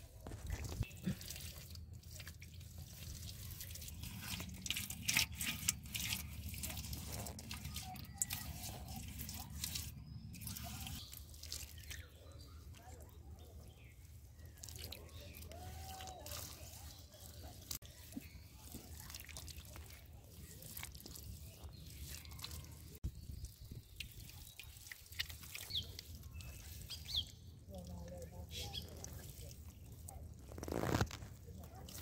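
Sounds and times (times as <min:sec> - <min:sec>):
wet mud squelching and slapping: 0:00.0 - 0:32.0.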